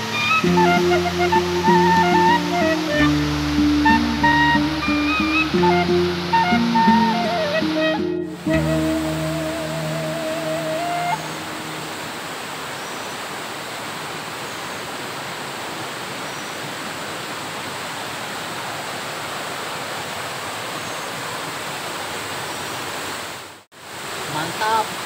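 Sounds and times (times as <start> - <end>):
waterfall splashing: 0.0 - 25.0.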